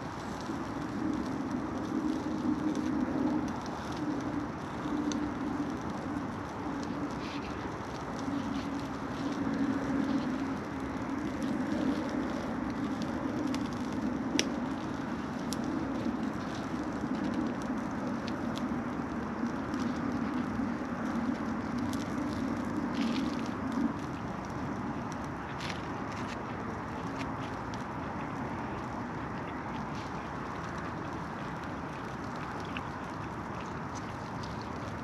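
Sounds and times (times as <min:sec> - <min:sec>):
campfire crackles and pops: 0:00.0 - 0:35.0
steady rushing noise: 0:00.0 - 0:35.0.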